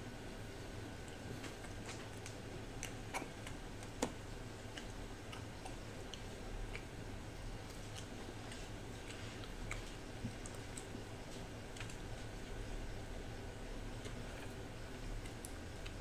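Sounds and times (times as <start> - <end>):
chewing soft bread: 0.7 - 16.0.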